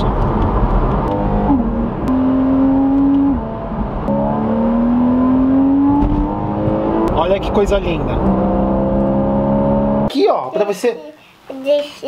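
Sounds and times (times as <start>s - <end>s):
car engine accelerating: 0.0s - 10.1s.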